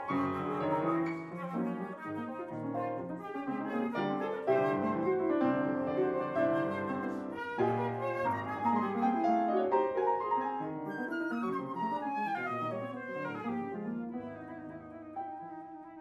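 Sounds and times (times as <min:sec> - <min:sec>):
flute melody: 0:00.0 - 0:16.0
piano chords: 0:00.0 - 0:16.0.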